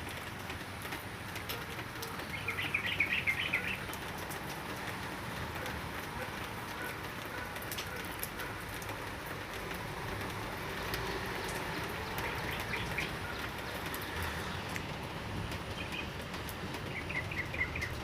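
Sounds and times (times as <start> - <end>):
light drizzle falling: 0.0 - 18.0.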